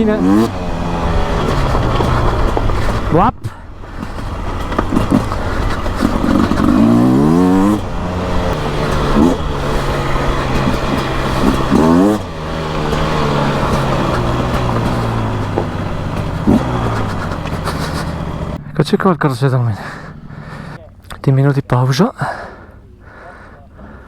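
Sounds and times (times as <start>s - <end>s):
two-stroke engine revving: 0.0s - 22.8s.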